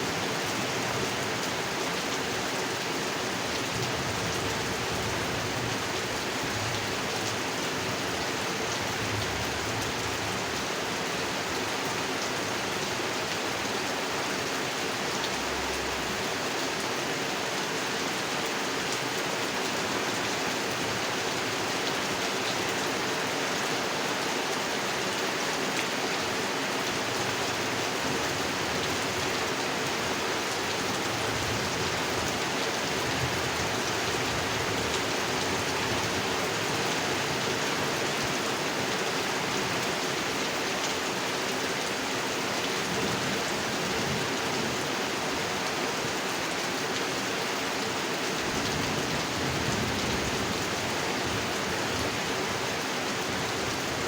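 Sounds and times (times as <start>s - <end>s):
rain falling on a pond: 0.0s - 54.0s.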